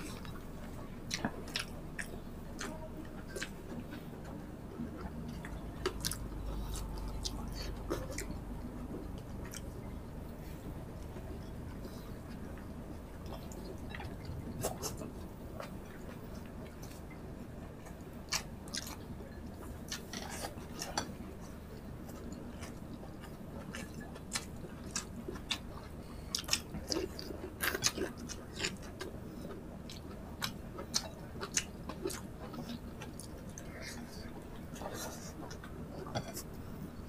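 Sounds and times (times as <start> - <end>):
people chewing and smacking: 0.0 - 37.0.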